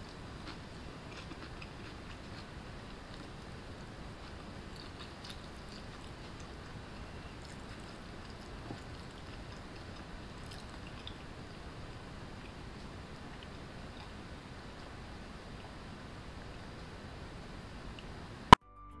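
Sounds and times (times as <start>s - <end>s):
background hiss: 0.0s - 18.6s.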